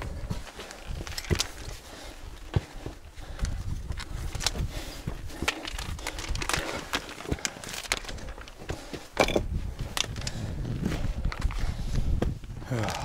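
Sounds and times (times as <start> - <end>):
footsteps on a trail: 0.0 - 13.0.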